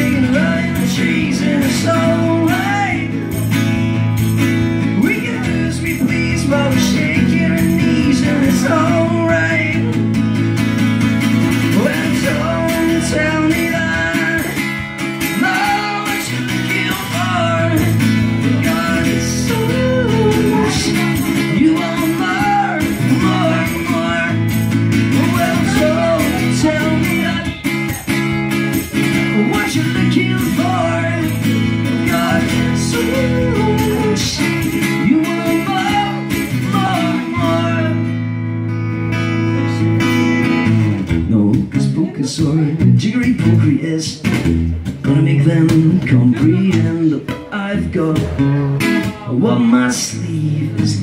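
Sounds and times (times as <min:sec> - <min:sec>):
man singing: 0:00.0 - 0:03.8, 0:04.4 - 0:38.4, 0:41.1 - 0:51.0
acoustic guitar strumming: 0:00.0 - 0:51.0.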